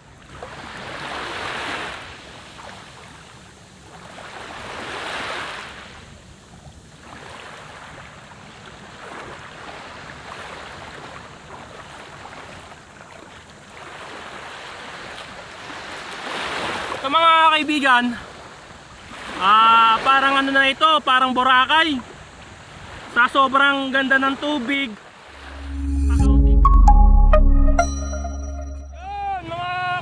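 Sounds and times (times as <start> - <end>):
sea waves on beach: 0.0 - 26.2.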